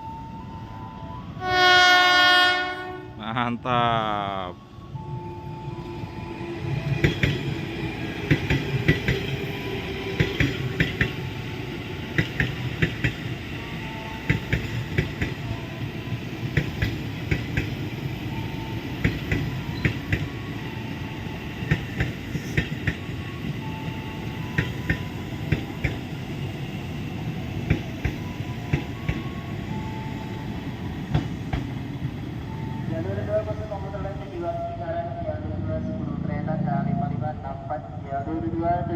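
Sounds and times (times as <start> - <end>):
low train rumble: 0.0 - 38.9.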